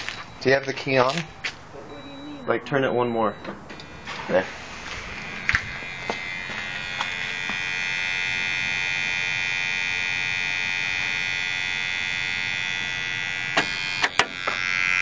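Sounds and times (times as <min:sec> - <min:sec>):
steady electrical buzz: 0:00.0 - 0:15.0.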